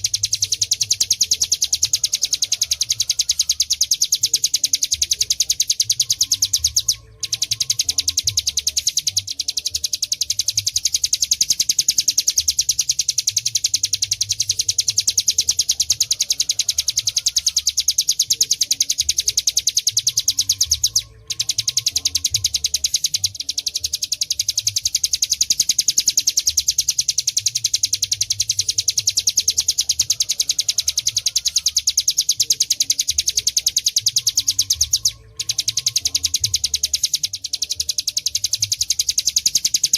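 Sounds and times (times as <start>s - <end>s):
bird singing buzzing trill: 0.0s - 39.9s.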